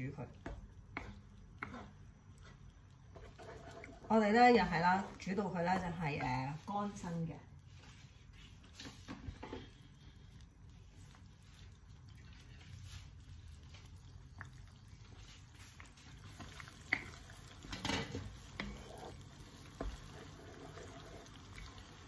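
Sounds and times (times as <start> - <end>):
sauce bubbling in frying pan: 0.0 - 22.0
wooden spatula stirring: 0.0 - 22.0.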